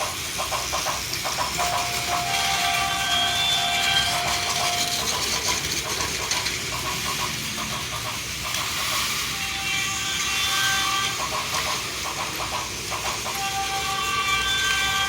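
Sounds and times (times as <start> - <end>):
toy train motors whirring: 0.0 - 15.0.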